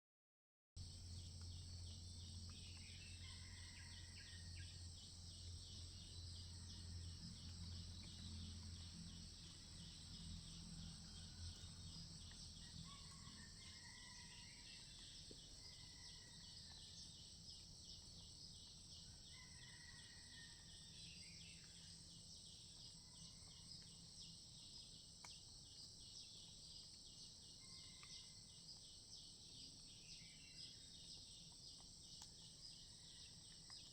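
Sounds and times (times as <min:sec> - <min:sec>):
insect chorus trilling: 0:00.8 - 0:33.9.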